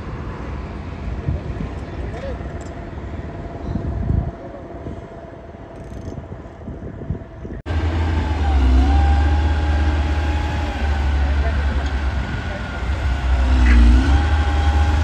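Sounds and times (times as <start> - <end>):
construction site noise: 0.0 - 15.0
diesel engine rumbling with whine: 0.0 - 15.0.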